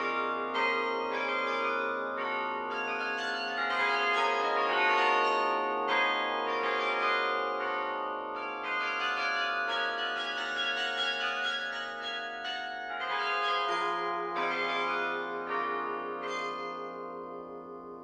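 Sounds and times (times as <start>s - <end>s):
carillon bells playing melody: 0.0s - 16.7s.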